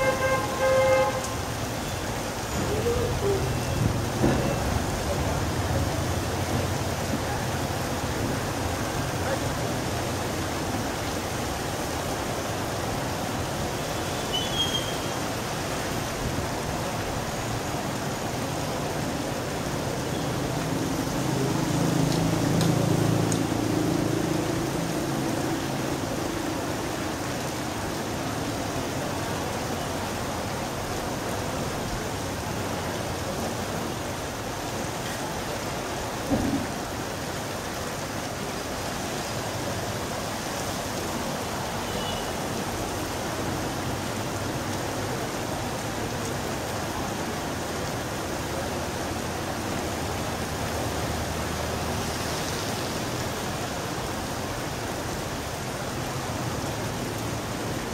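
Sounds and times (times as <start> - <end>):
rain falling on street: 0.0 - 57.9.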